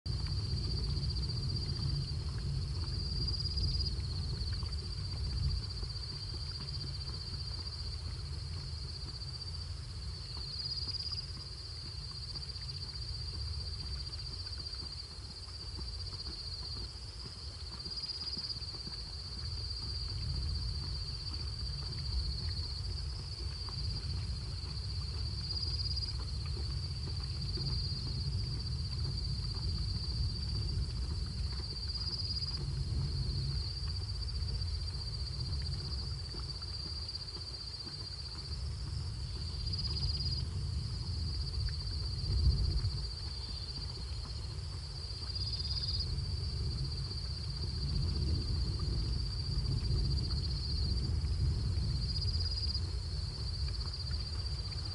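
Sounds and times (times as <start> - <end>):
low rumble: 0.1 - 14.8, 18.6 - 37.2, 37.9 - 54.9
night insects chorus: 0.1 - 54.9.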